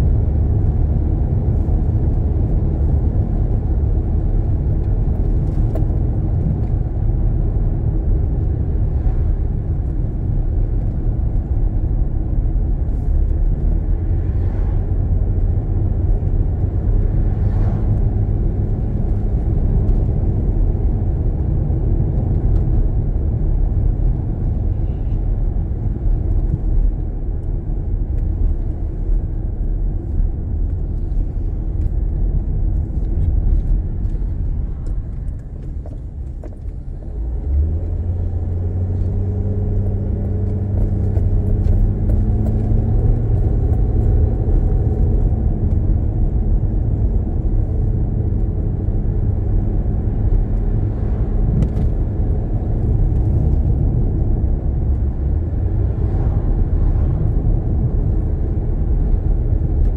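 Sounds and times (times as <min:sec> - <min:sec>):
tyres and engine rumble in car: 0:00.0 - 0:59.9.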